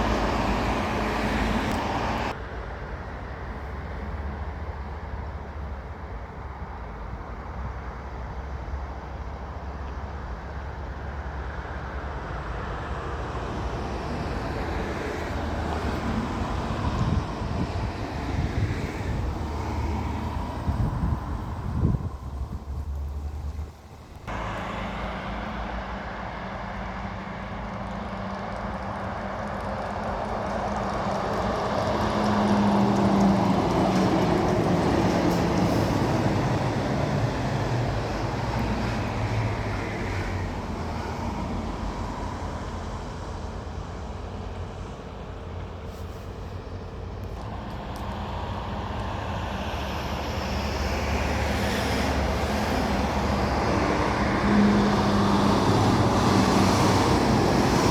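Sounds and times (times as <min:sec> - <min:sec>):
vehicle approaching: 0:00.0 - 0:02.4, 0:10.4 - 0:57.9
heavy trucks driving past: 0:00.0 - 0:06.8, 0:07.5 - 0:57.9.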